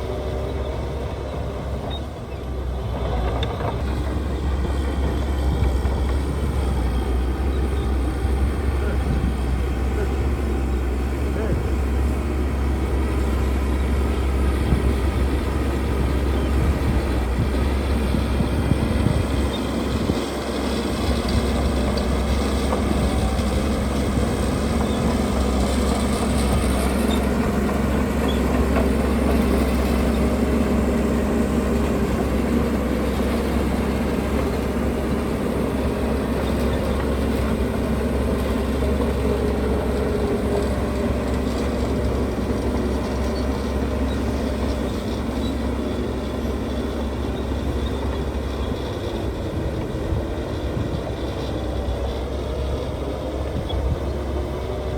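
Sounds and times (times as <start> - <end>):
diesel engine rumble: 0.0 - 54.9.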